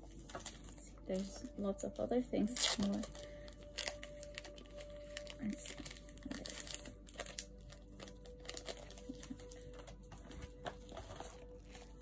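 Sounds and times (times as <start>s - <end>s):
packaging crinkling: 0.0s - 1.6s, 2.4s - 12.0s.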